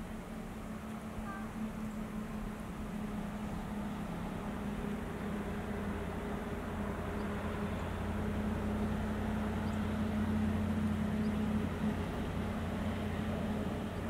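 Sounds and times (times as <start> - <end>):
distant engine drone: 0.0 - 14.0
outdoor rumble: 0.0 - 14.0.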